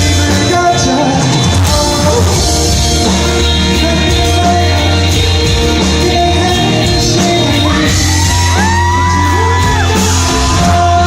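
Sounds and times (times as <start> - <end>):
bass line: 0.0 - 11.0
drums: 0.0 - 11.0
live pop-rock band: 0.0 - 11.0.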